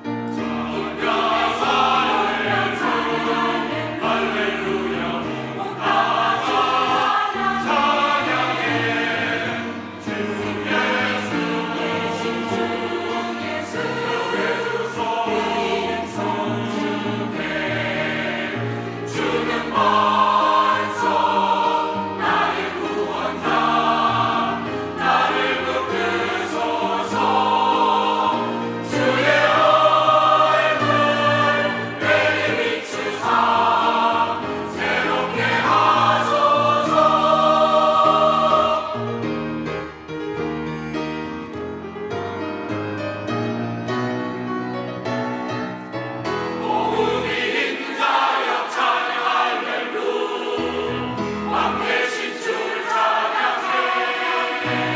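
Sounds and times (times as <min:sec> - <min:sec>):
church choir singing: 0:00.0 - 0:54.9.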